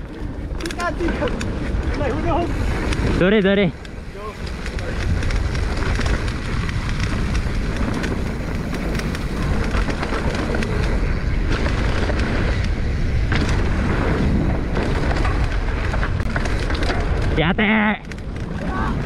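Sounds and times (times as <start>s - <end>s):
bike rattling and clicking: 0.0s - 19.0s
bike tyres rolling over rough ground: 0.0s - 19.0s
heavy low rumble: 0.0s - 19.0s.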